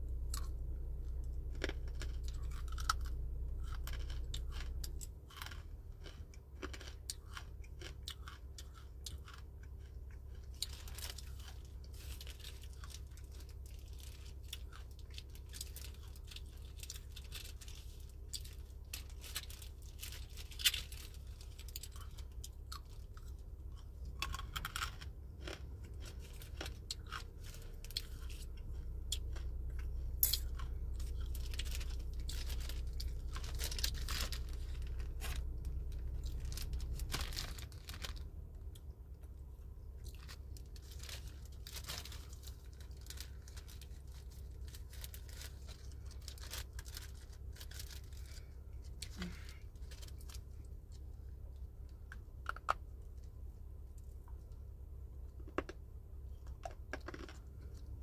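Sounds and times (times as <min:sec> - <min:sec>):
low steady hum: 0:00.0 - 0:58.0
crunchy food chewing: 0:00.2 - 0:53.4, 0:56.4 - 0:58.0.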